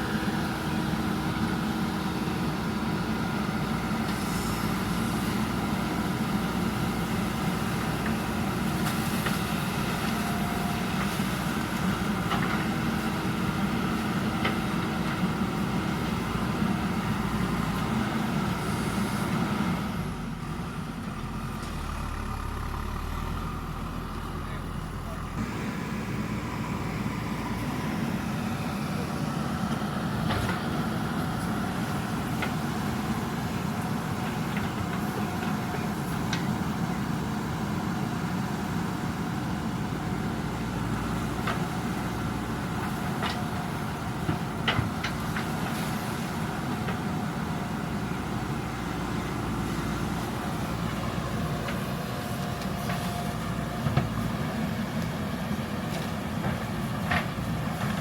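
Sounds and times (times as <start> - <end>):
backhoe diesel engine running: 0.0 - 58.0.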